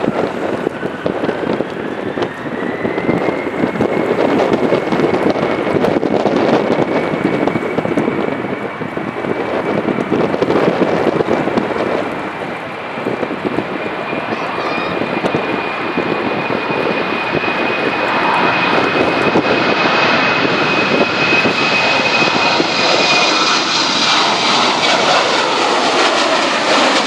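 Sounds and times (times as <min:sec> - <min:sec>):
jet engines whining: 0:00.0 - 0:27.0
wind buffeting microphone: 0:00.0 - 0:27.0.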